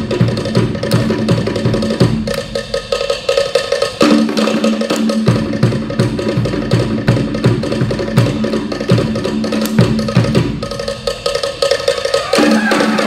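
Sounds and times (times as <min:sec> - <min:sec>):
wooden slit drums playing: 0:00.0 - 0:13.0.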